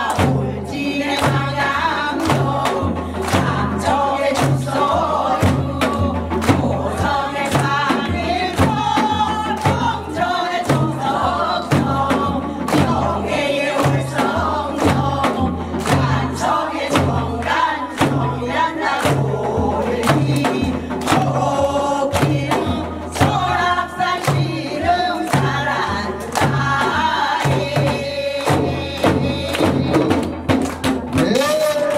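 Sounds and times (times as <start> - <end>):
hand drums beating: 0.0 - 31.9
low drum beats: 0.0 - 31.9
women singing in unison: 0.0 - 31.9.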